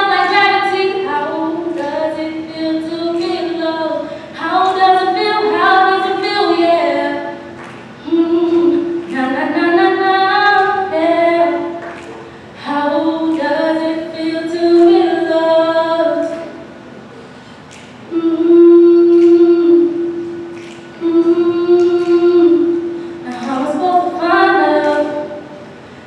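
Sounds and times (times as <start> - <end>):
woman singing unaccompanied: 0.0 - 12.0, 12.6 - 16.6, 18.1 - 25.6.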